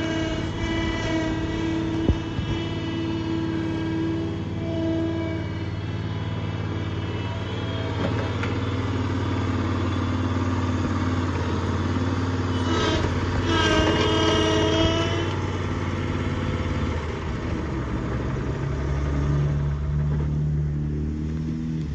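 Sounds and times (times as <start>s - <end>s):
wavering whine: 0.0s - 18.2s
backhoe loader engine running: 0.0s - 21.9s.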